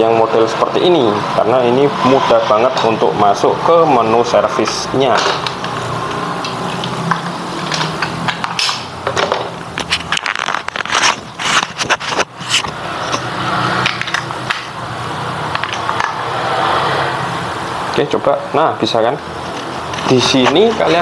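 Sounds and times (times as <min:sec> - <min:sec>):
low hum with hiss: 0:00.0 - 0:21.0.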